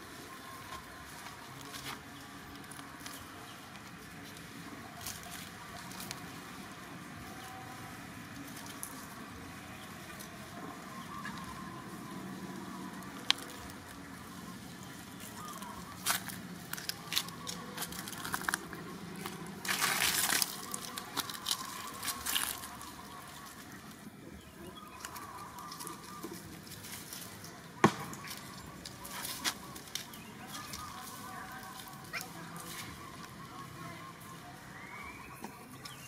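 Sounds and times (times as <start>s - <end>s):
dry leaves crackling and rustling: 0.0s - 36.0s.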